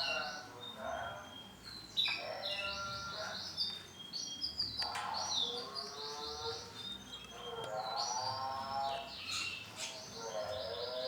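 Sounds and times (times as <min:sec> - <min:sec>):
canary singing trills: 0:00.0 - 0:11.0.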